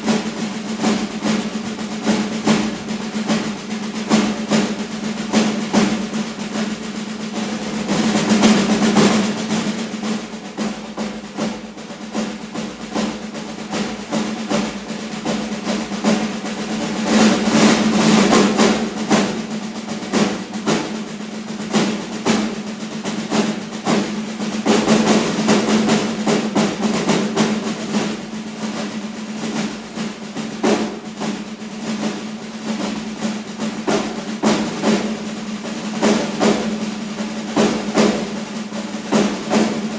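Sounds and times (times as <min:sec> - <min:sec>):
snare drum rolls: 0:00.0 - 0:39.9.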